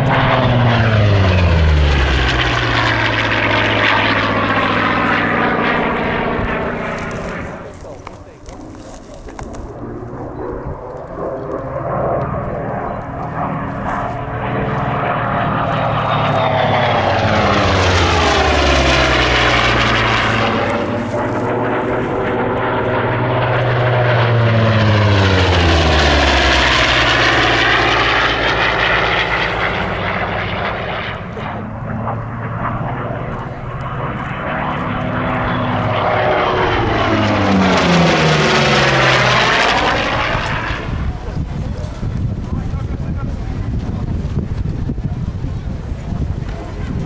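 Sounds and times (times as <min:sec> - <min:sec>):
propeller plane flying over: 0:00.0 - 0:47.0.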